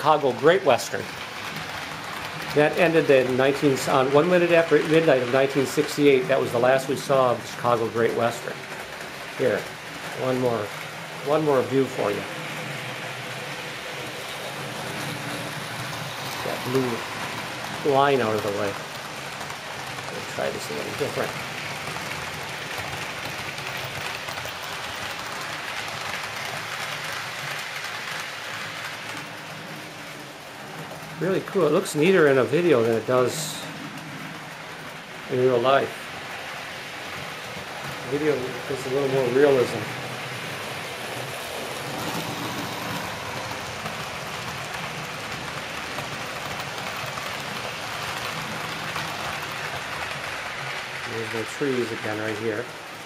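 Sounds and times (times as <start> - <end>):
locomotive motor drone: 0.0 - 53.0
wheels rolling on rails: 0.0 - 53.0.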